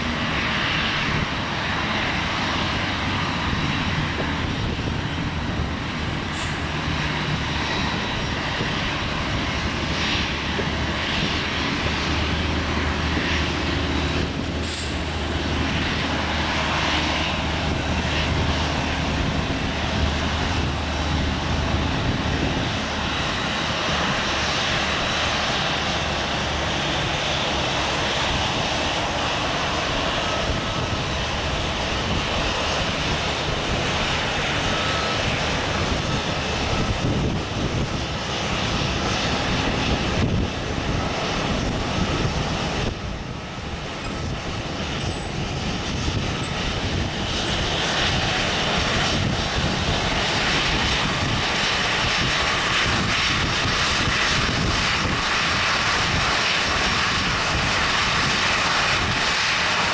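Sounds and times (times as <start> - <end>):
jet engine roar with whine: 0.0 - 59.9.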